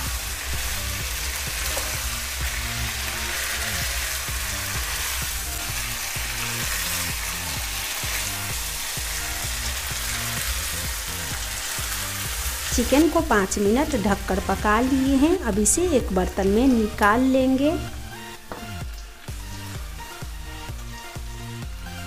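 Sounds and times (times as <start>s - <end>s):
chicken sizzling in oil: 0.0s - 17.6s, 18.3s - 22.0s
background music: 0.0s - 22.0s.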